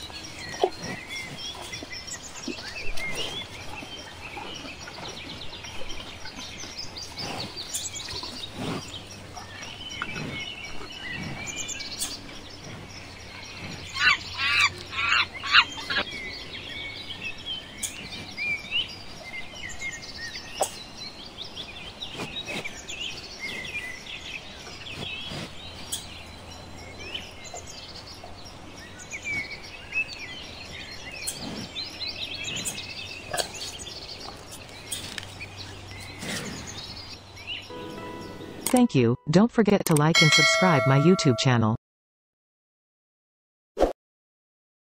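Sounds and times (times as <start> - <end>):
birds chirping and calling: 0.0 - 39.0.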